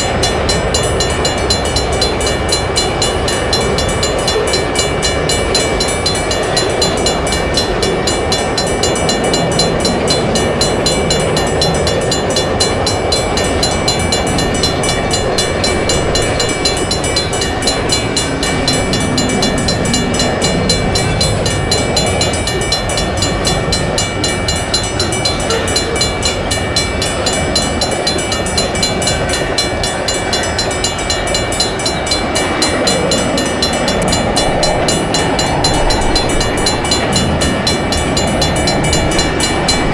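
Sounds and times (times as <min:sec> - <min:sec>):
passing train rumble: 0:00.0 - 0:39.9
railroad crossing bells ringing: 0:00.0 - 0:39.9.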